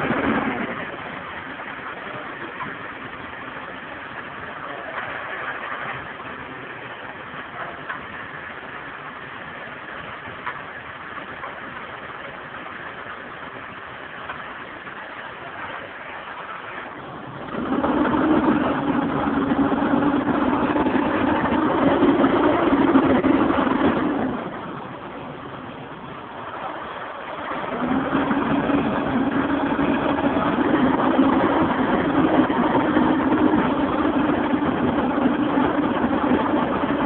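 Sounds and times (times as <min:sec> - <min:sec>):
diesel engine idling and revving: 0:00.0 - 0:37.0.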